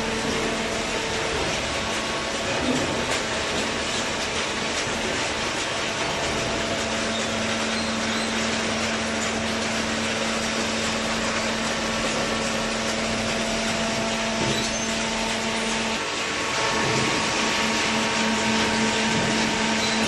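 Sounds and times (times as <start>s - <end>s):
baler motor and pump hum: 0.0s - 20.0s.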